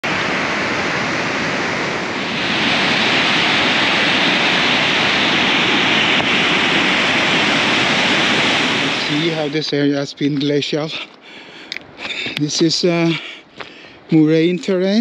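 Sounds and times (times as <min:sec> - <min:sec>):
river rushing over rocks: 0:00.0 - 0:13.1.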